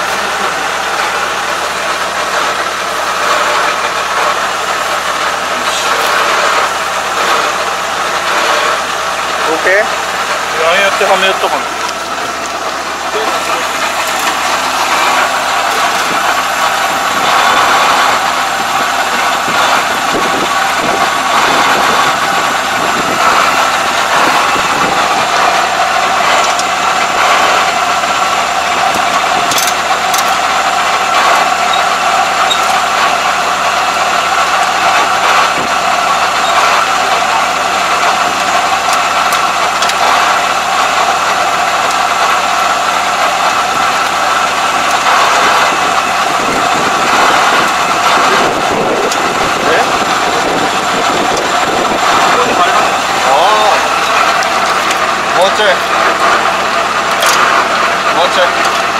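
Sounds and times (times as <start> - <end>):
combine harvester engine running: 0.0 - 58.9.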